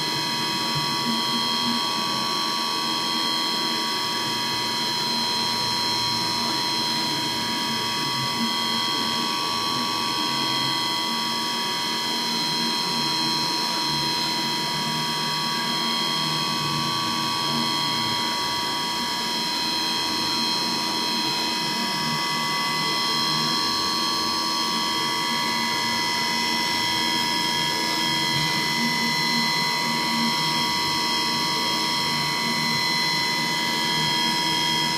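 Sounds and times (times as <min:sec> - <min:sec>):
milling machine whine: 0:00.0 - 0:34.9.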